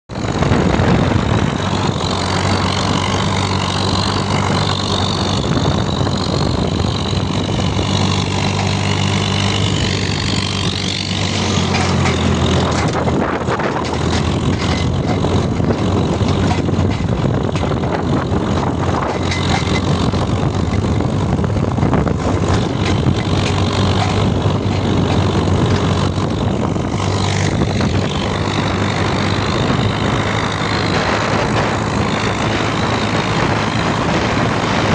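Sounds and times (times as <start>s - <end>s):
tractor engine running: 0.1s - 34.9s
wind buffeting microphone: 0.1s - 34.9s.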